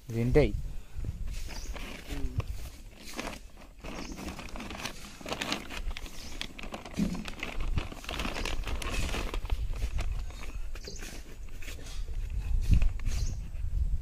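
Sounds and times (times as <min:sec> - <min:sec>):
plastic sheet crinkling: 0:01.3 - 0:13.2.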